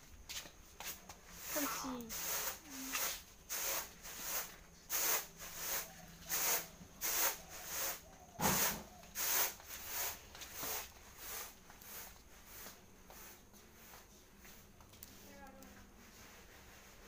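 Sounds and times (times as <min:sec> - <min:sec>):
plastic sandals scuffing on concrete: 0:00.2 - 0:17.0.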